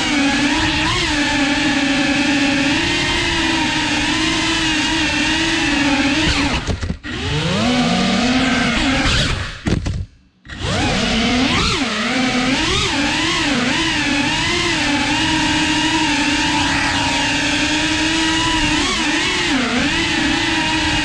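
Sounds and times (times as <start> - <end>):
small drone propellers whining: 0.0 - 9.7, 10.4 - 21.0.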